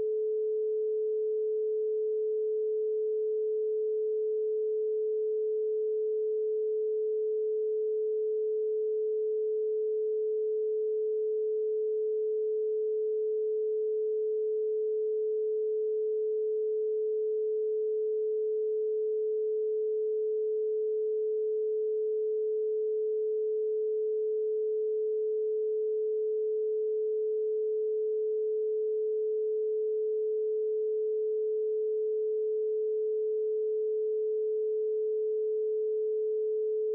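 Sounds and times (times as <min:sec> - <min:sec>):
pure sine tone: 0:00.0 - 0:36.9.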